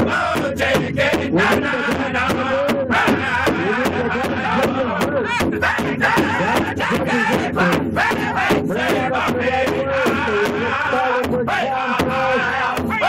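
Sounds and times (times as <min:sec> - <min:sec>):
group singing high vocables: 0:00.0 - 0:13.0
large hide drum beating: 0:00.0 - 0:13.0.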